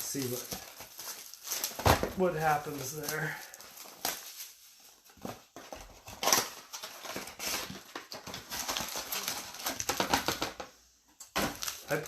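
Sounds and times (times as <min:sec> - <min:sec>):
foil wrappers crinkling: 0:00.0 - 0:10.6, 0:11.4 - 0:12.0.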